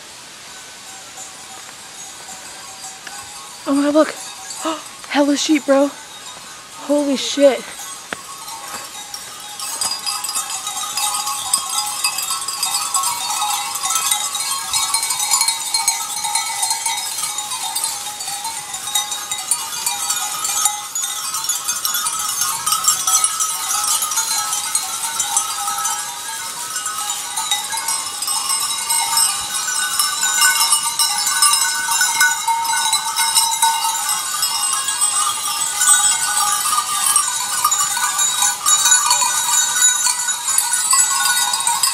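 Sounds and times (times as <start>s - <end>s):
goat bells jangling: 0.0s - 41.9s.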